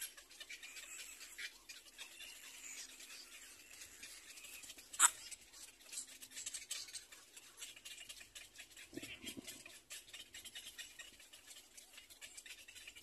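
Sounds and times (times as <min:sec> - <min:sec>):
chicks scratchy ticking: 0:00.0 - 0:13.0.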